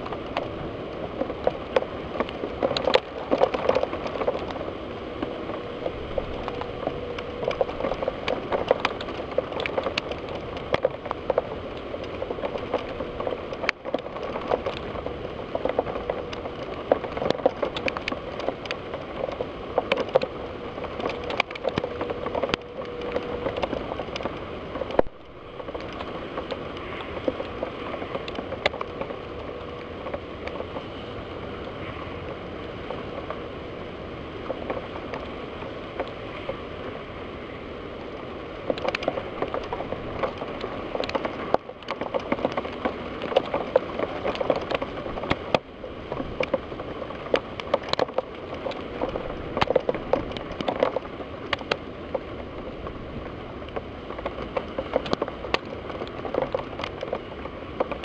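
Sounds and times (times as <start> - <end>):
heavy rain: 0.0 - 58.0
raindrops ticking on window glass: 0.0 - 58.0.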